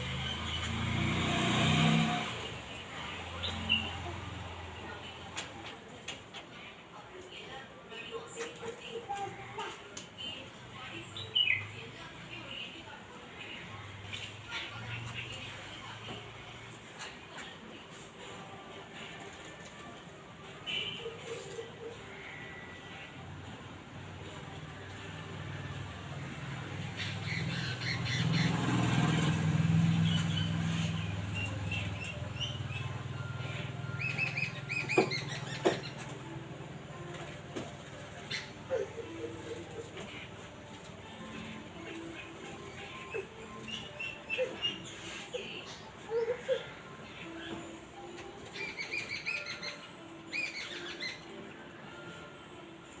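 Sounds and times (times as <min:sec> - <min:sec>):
small birds chirping: 0:00.0 - 0:18.6, 0:24.8 - 0:36.4, 0:38.1 - 0:51.4.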